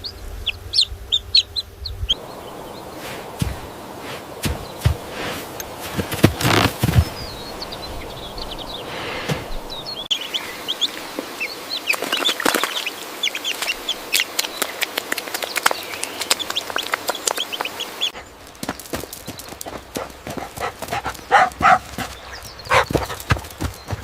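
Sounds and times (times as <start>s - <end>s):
chickens chirping: 0.0s - 24.0s.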